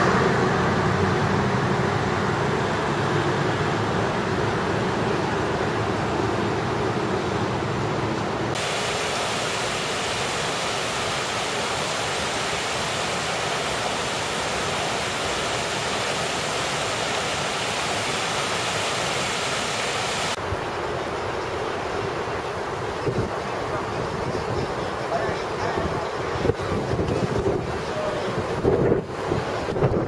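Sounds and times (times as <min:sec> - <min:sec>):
water rushing over a weir: 0:00.0 - 0:30.0.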